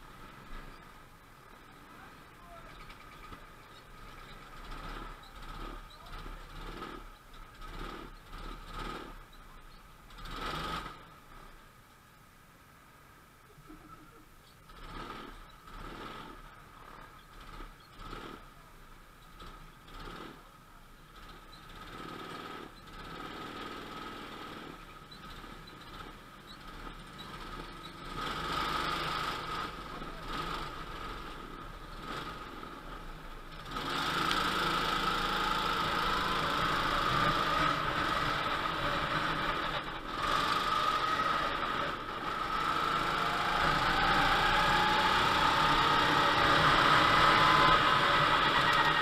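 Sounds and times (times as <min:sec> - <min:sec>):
go-kart engine accelerating: 0:00.0 - 0:11.6, 0:13.8 - 0:49.0
go-kart engines running: 0:00.0 - 0:11.6, 0:13.4 - 0:49.0.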